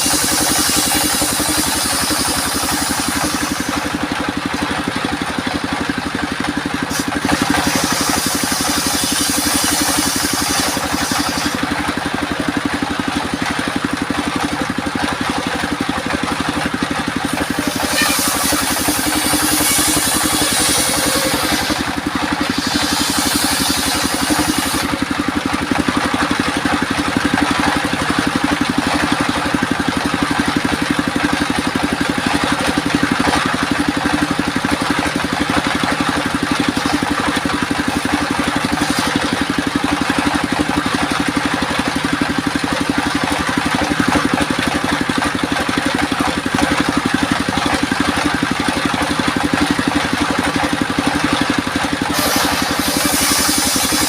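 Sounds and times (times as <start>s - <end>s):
sawmill machine running: 0.0s - 54.0s.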